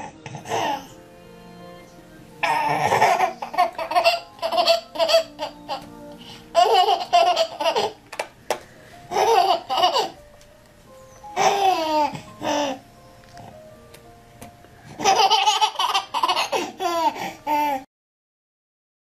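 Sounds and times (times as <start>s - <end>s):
quiet background music: 0.0s - 17.9s.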